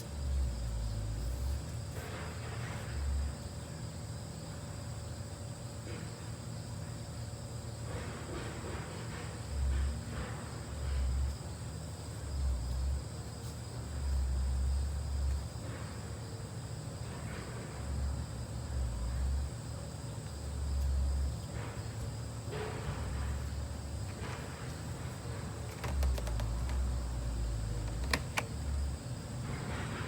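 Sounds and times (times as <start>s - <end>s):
air conditioner hum: 0.0s - 30.0s.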